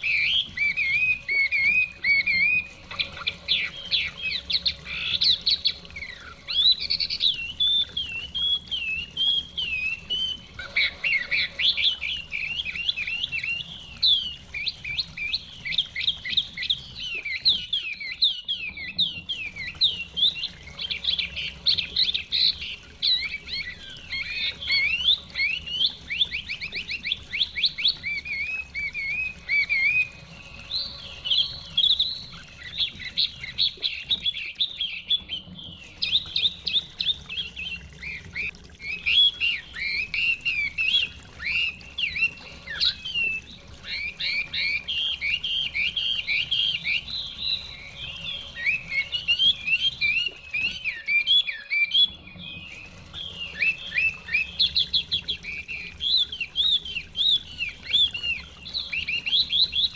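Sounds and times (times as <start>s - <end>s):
bird singing whistled trills: 0.0s - 59.9s.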